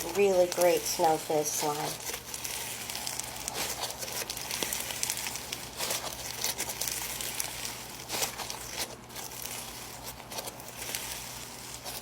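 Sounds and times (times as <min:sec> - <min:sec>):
slime squished by hand crackling: 0:00.0 - 0:12.0.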